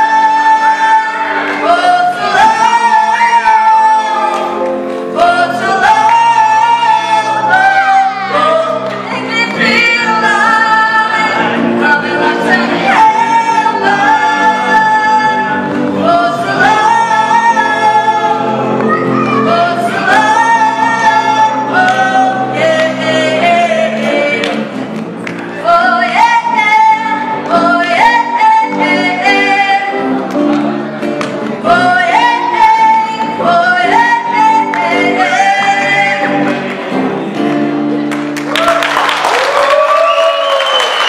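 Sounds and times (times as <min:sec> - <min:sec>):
people singing together: 0:00.0 - 0:37.8
bass guitar: 0:00.0 - 0:38.8
acoustic guitar: 0:00.0 - 0:39.2
electric guitar: 0:00.0 - 0:40.8.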